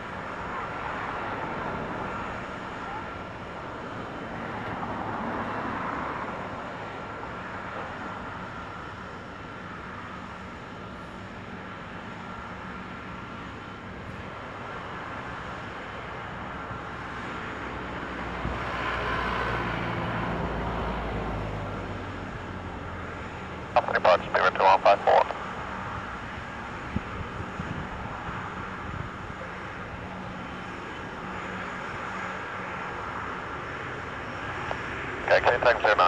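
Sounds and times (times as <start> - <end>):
distant aircraft engines: 0.0 - 36.0.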